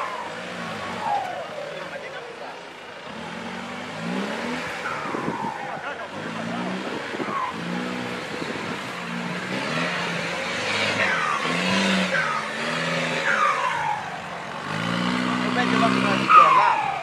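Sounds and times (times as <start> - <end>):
jeep engine revving: 0.0 - 17.0.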